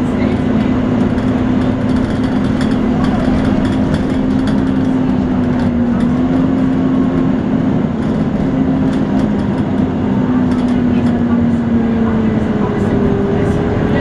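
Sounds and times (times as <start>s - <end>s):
bus cooling fan whine: 0.0s - 14.0s
bus engine rumble: 0.0s - 14.0s.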